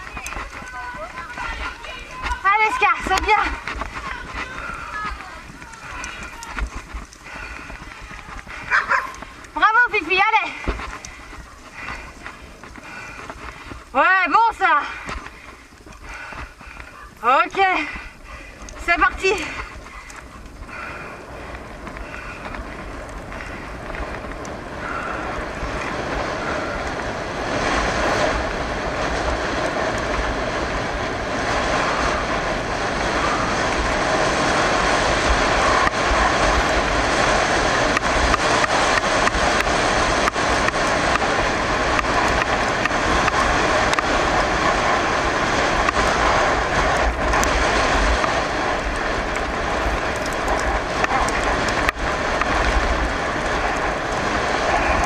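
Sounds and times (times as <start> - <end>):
bicycle tyres hissing on wet road: 0.0 - 55.0
wind rumbling on microphone: 0.0 - 55.0.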